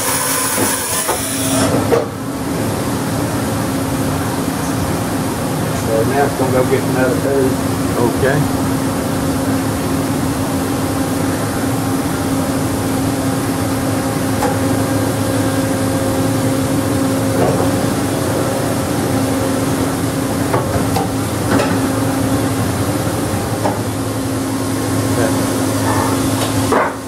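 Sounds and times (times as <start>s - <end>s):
machine humming: 0.0s - 27.0s.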